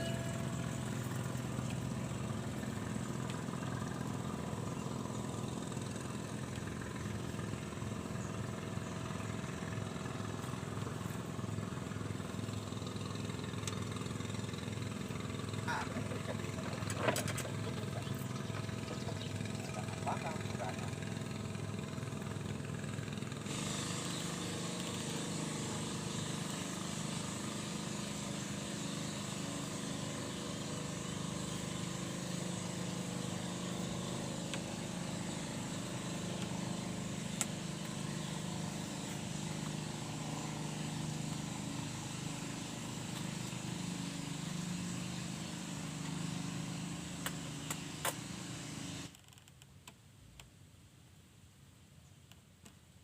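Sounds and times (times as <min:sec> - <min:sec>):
engine humming: 0:00.0 - 0:49.1
outdoor noise: 0:00.0 - 0:53.0.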